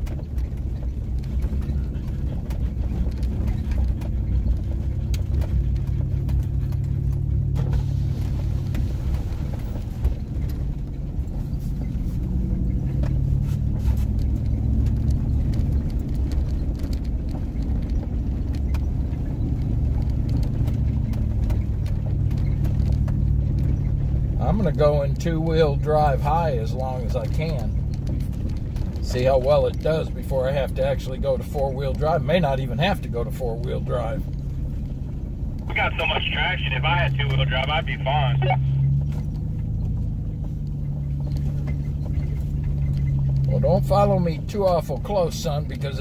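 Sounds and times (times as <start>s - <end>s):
truck engine and tyre drone: 0.0s - 46.0s
truck rattling over bumps: 0.0s - 46.0s.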